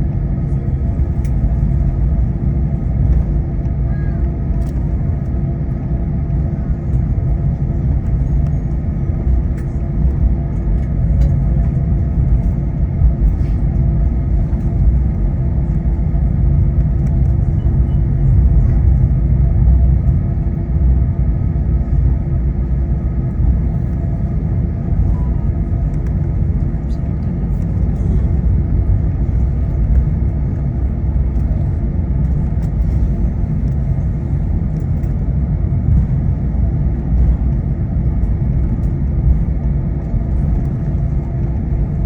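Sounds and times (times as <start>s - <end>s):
aircraft cabin rumble: 0.0s - 42.0s
constant hum: 0.0s - 42.0s.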